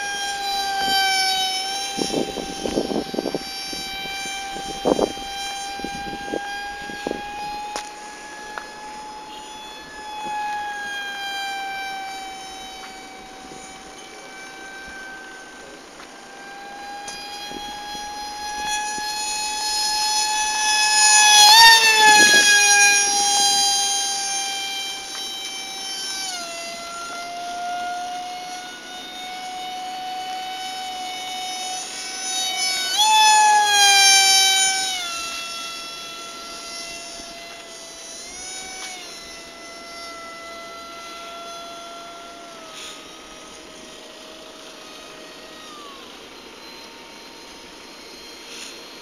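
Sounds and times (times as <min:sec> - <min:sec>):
model jet motor whining: 0:00.0 - 0:49.0.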